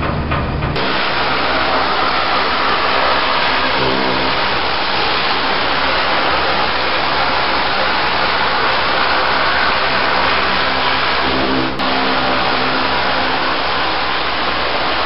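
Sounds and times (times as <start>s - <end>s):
pump engine humming: 0.0s - 15.0s
water jet hissing: 0.8s - 15.0s.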